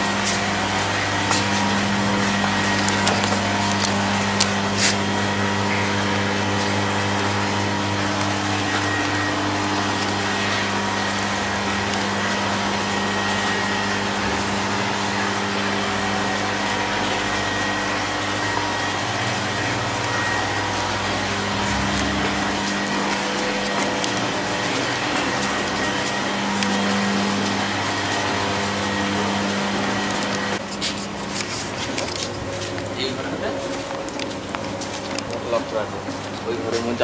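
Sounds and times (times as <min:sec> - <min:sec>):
machine drone with low hum: 0:00.0 - 0:37.0.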